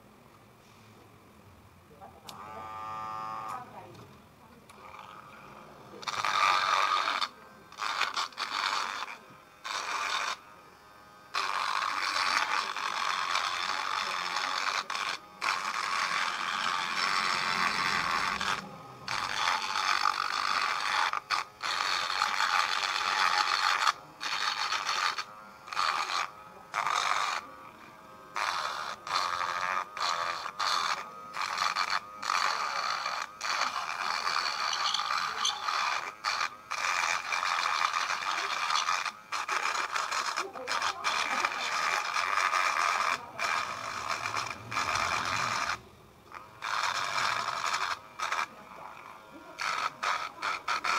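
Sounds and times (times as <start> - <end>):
rotary tool grinding plastic pipe: 4.7 - 50.9.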